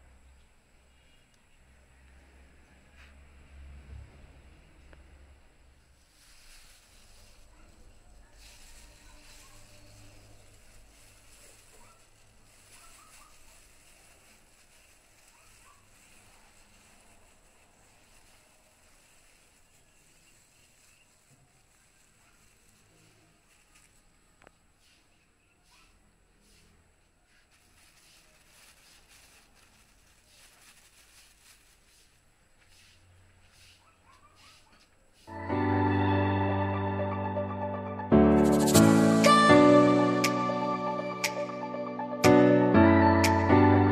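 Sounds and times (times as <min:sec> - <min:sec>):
faint outdoor hiss: 0:00.0 - 0:35.3.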